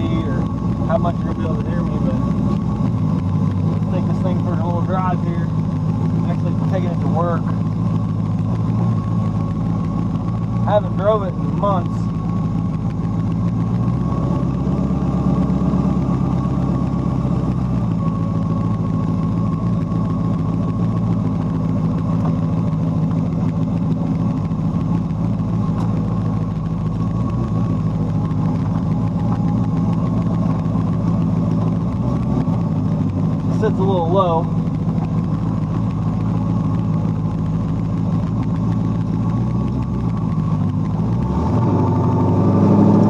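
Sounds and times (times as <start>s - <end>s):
truck engine rumbling: 0.0s - 43.0s.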